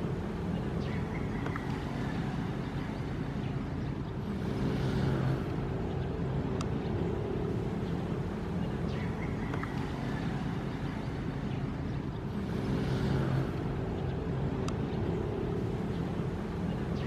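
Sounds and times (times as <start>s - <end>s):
ocean surf rumble: 0.0s - 17.0s.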